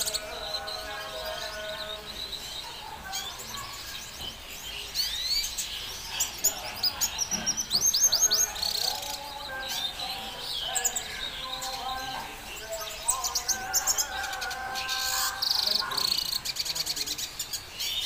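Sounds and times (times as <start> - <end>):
bird singing twitters and chirps: 0.0 - 18.0.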